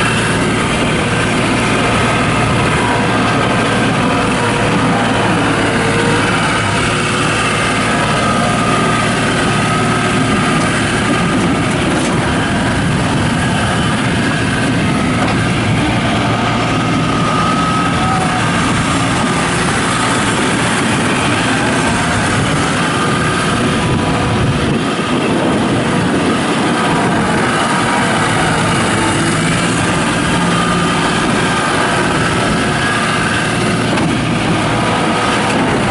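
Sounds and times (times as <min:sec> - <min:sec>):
diesel engine running loud: 0:00.0 - 0:35.9.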